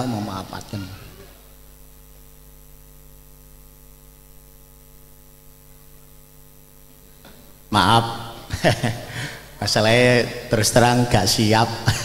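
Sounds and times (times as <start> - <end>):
electrical mains hum with hiss: 0.0 - 12.0.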